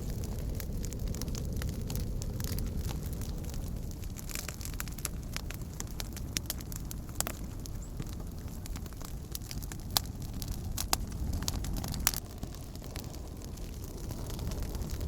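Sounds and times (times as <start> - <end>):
campfire crackling and popping: 0.0 - 15.0
steady low rumble: 0.0 - 15.0.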